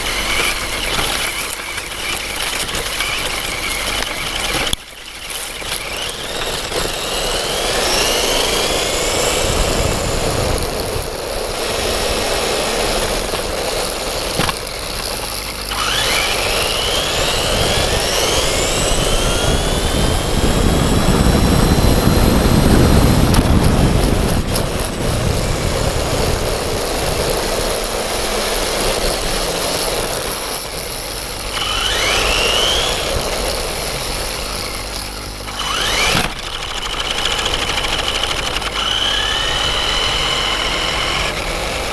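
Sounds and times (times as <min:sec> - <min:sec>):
electric motor whining: 0:00.0 - 0:41.9
steady rushing noise: 0:00.0 - 0:41.9.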